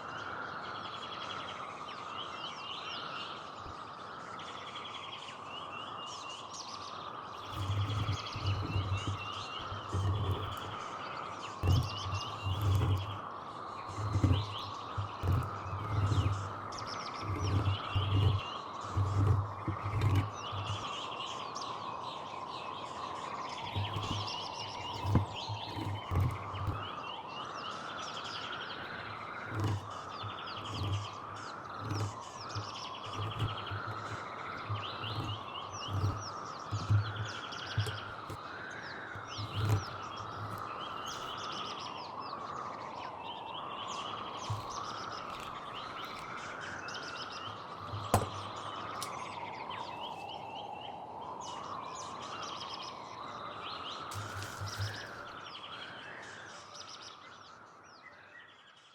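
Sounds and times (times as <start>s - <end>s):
small birds chirping: 0.6s - 58.9s.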